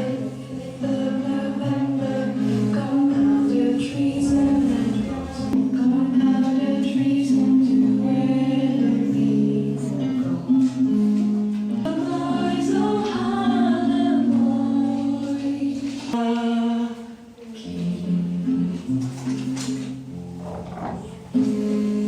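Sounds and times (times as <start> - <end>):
music with singing voices: 0.0 - 22.0.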